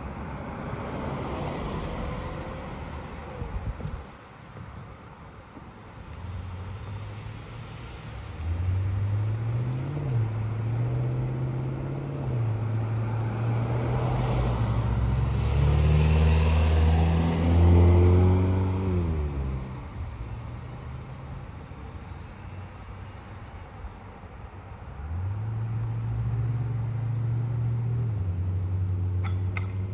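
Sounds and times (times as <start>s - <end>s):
cars driving slowly past: 0.0s - 29.9s.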